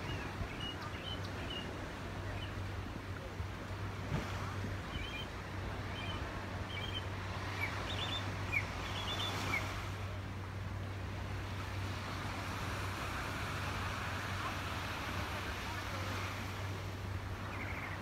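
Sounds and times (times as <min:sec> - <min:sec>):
ocean waves on sandy beach: 0:00.0 - 0:18.0.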